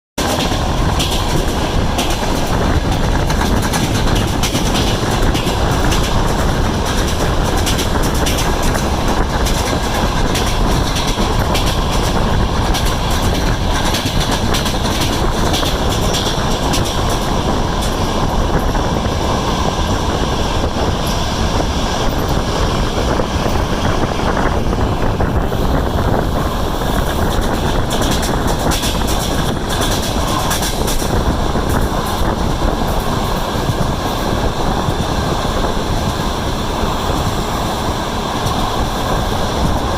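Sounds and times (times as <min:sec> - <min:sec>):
railway carriage rumble: 0:00.2 - 0:39.9
train wheels clattering over rail joints: 0:00.2 - 0:39.9.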